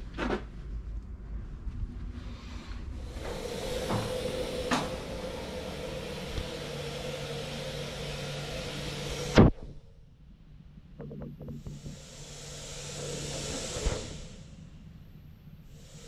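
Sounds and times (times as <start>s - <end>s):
lower hum: 0.0s - 16.0s
machine hiss with low hum: 0.0s - 16.0s.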